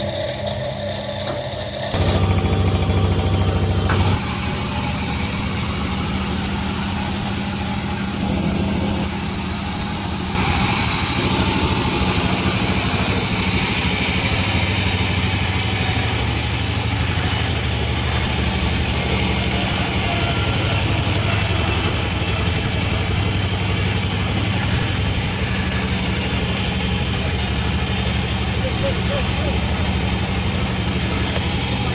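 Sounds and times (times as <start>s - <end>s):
sawmill engine running: 0.0s - 31.9s
saw blade cutting wood: 3.9s - 31.9s.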